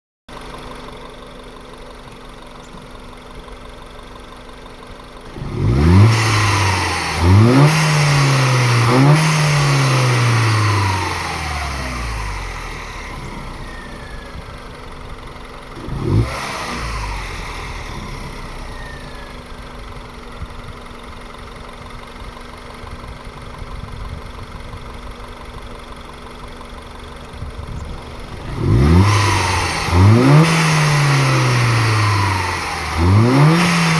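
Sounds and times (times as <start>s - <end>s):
car engine idling and revving: 0.3s - 33.9s.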